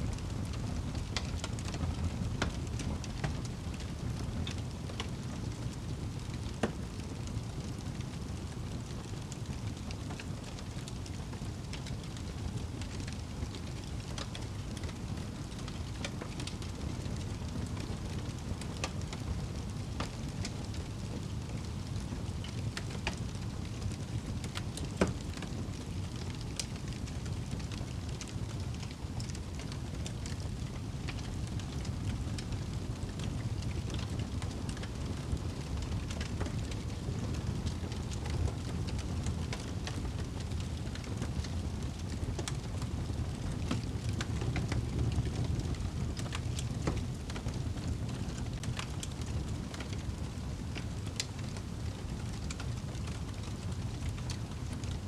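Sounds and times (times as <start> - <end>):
flames rumbling: 0.0 - 55.0
wood fire popping: 0.0 - 55.0.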